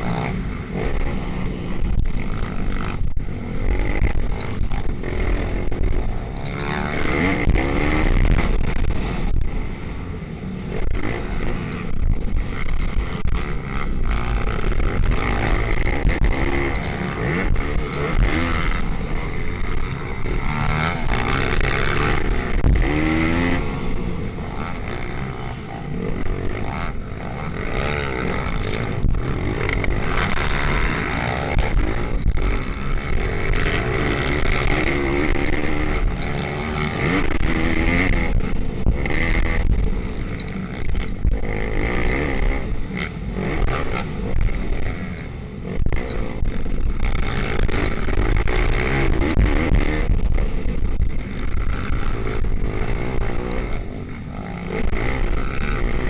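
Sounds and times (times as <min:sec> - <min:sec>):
small engines revving: 0:00.0 - 0:56.0.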